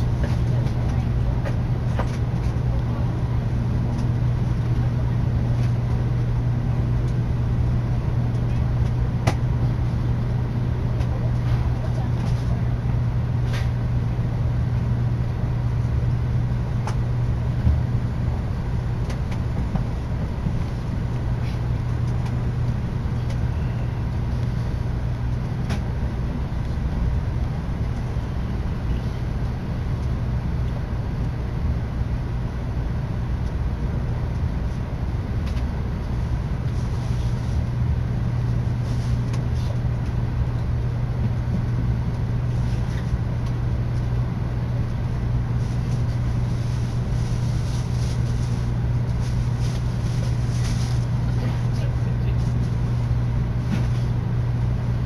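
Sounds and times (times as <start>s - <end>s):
train rumble inside cabin: 0.0s - 55.0s.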